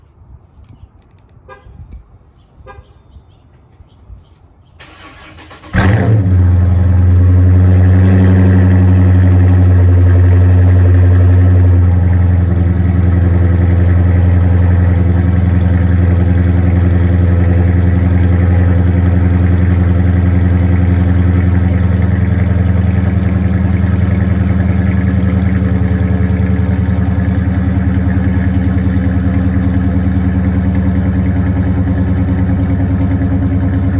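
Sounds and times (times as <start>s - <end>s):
car engine starting and idling: 4.8s - 33.9s.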